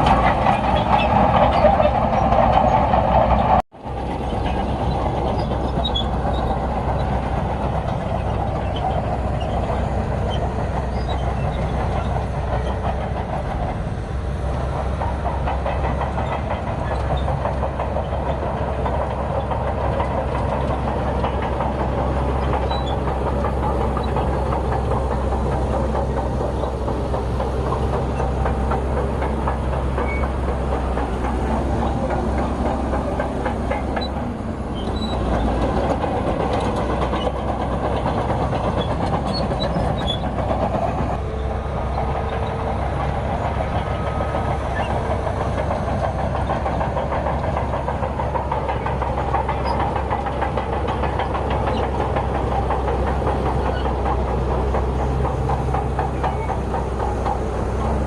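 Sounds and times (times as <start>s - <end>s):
bulldozer diesel engine running: 0.0s - 58.0s
steel tracks clanking: 0.0s - 58.0s.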